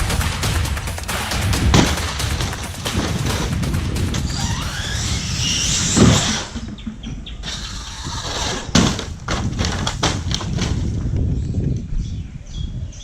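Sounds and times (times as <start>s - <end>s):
hard knocks: 0.0s - 11.1s
rough low rumbling: 0.0s - 12.9s.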